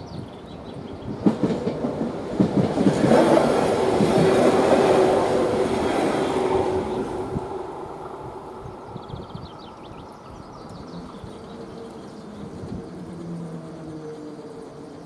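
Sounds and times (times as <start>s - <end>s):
train rumble with steady tone: 0.0s - 15.0s.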